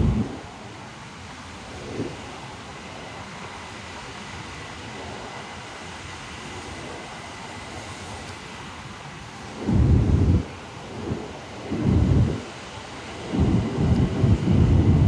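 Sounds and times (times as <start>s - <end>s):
faint high whine: 0.0s - 15.0s
train running noise: 0.0s - 15.0s.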